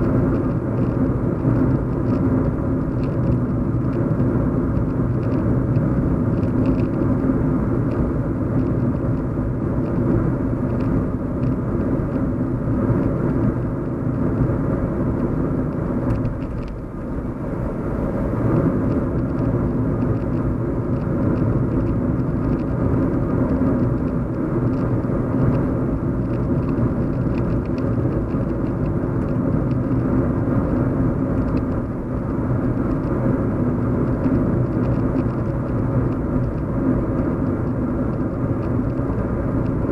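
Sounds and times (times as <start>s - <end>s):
car interior road and engine rumble: 0.0s - 39.9s.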